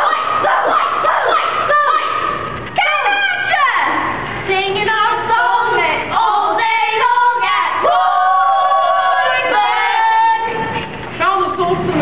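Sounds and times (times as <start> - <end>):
high voices singing: 0.0 - 11.0.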